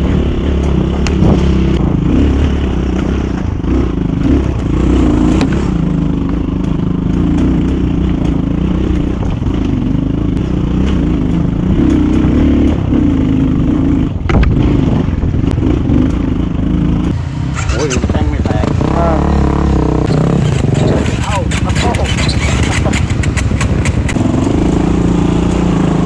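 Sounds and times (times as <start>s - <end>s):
knocks and rattles: 0.0s - 26.0s
motorcycle engine running: 0.0s - 26.0s.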